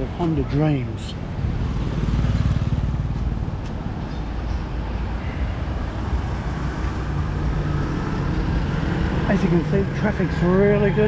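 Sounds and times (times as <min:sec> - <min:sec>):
motorbikes passing: 0:00.0 - 0:11.0
traffic hum: 0:00.0 - 0:11.0.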